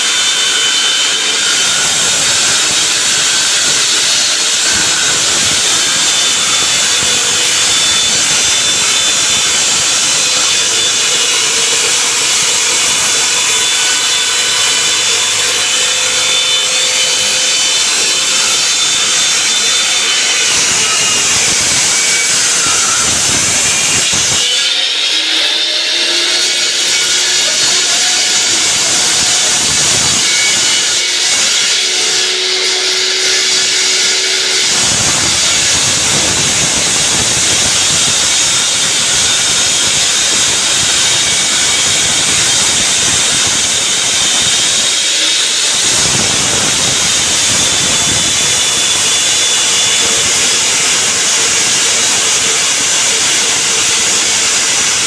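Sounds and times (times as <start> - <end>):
diamond saw grinding concrete: 0.0 - 55.0.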